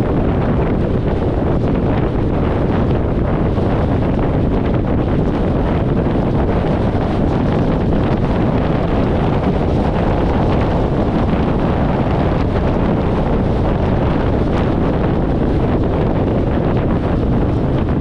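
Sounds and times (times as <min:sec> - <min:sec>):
car road and engine noise: 0:00.0 - 0:18.0
wind buffeting microphone: 0:00.0 - 0:18.0.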